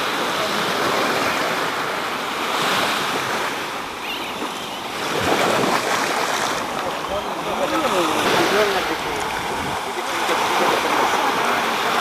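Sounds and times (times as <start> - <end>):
small waves breaking on beach: 0.0 - 12.0
wind on microphone: 0.0 - 12.0.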